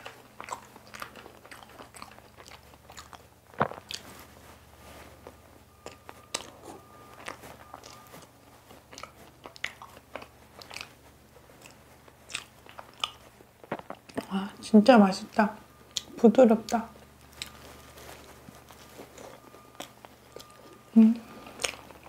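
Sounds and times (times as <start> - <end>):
chewing and mouth sounds: 0.0 - 4.6, 5.2 - 14.7, 15.3 - 22.0.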